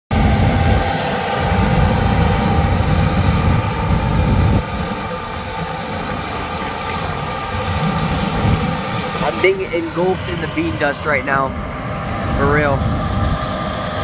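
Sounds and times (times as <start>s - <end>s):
combine harvester droning: 0.1s - 14.0s.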